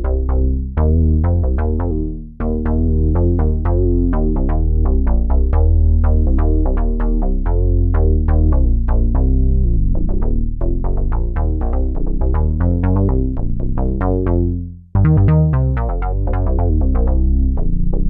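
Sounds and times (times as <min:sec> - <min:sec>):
heavy synth bass line: 0:00.0 - 0:18.0
synthesizer plucked notes: 0:00.0 - 0:18.0.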